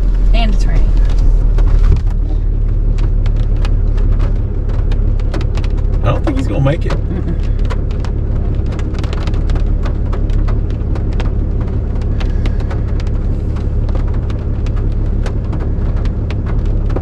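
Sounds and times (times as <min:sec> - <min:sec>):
low engine rumble: 0:00.0 - 0:17.0
rain ticking on a vehicle: 0:00.0 - 0:17.0.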